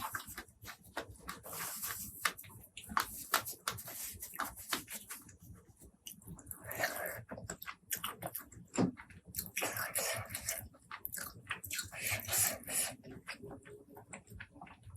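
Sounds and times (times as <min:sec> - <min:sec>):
chewing and biting: 0:00.0 - 0:14.9.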